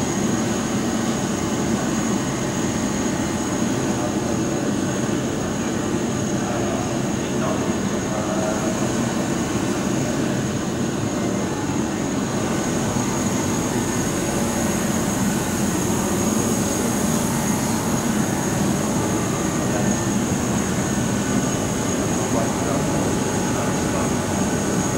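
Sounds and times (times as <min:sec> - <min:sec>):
turbine mechanical hum: 0:00.0 - 0:24.9.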